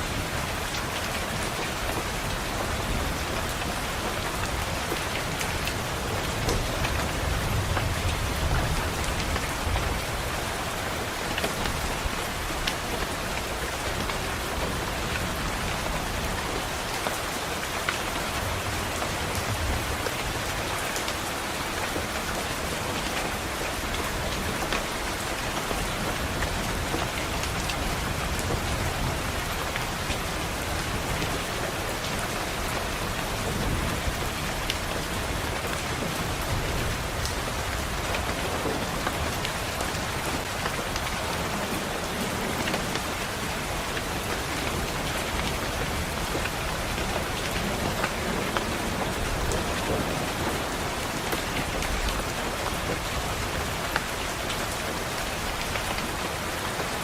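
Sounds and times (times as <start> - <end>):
rain on window glass: 0.1 - 57.0.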